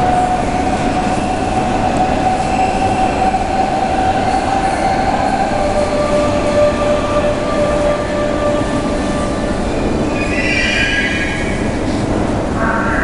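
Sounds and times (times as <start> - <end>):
electric train whine: 0.0 - 13.0.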